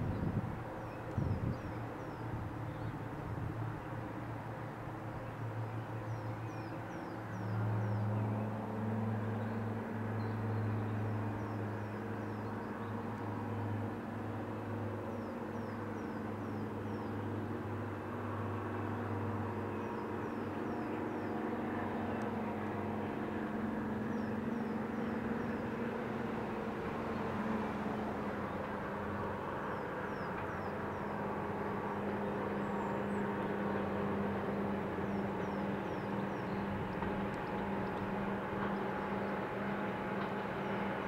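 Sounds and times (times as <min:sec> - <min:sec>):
diesel locomotive engine: 0:00.0 - 0:41.0.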